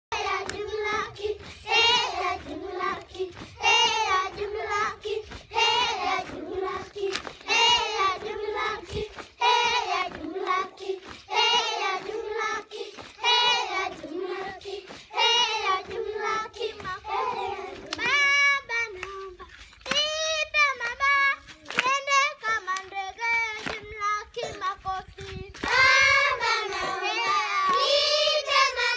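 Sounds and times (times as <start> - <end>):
girls singing in chorus: 0.1 - 28.9.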